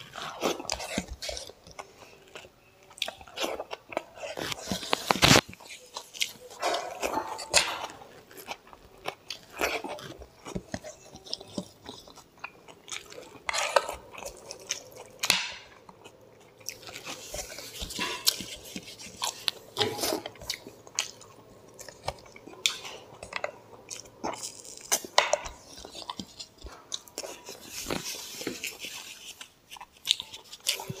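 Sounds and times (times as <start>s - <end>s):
chewing mouth noises: 0.0s - 31.0s.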